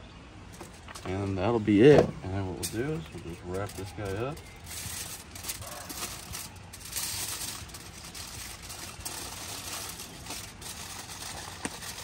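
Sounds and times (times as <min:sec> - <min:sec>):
aluminium foil crinkling: 0:00.5 - 0:01.6, 0:02.4 - 0:12.0.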